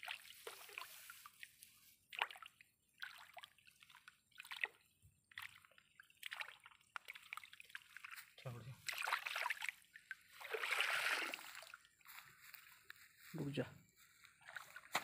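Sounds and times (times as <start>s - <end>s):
small splashes of water: 0.0s - 12.1s, 14.4s - 15.0s.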